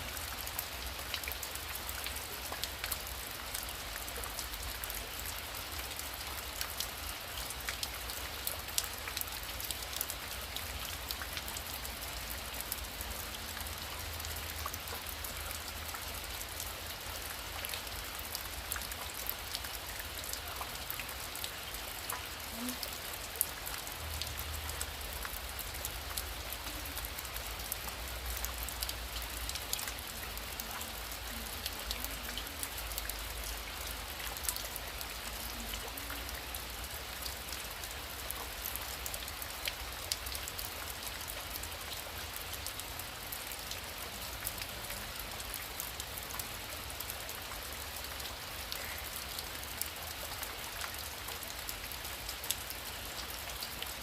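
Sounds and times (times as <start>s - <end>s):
heavy rain falling: 0.0s - 54.0s
raindrops ticking on a surface: 0.0s - 54.0s.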